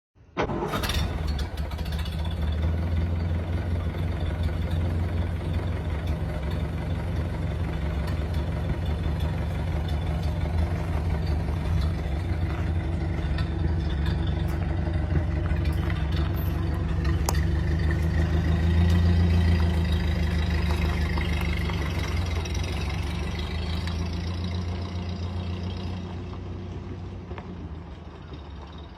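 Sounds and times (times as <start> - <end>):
old car engine running: 0.4 - 28.9.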